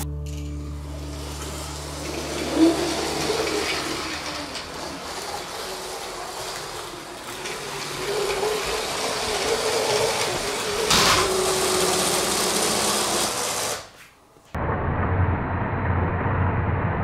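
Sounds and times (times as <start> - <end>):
toy train whirring and rattling: 0.3 - 14.0.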